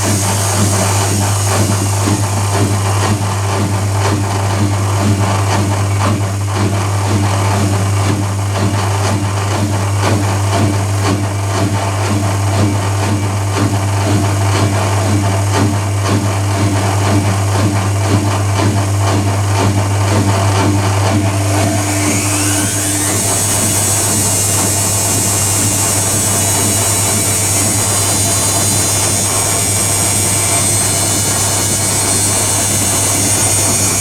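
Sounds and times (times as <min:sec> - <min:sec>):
low motor hum: 0:00.0 - 0:34.0.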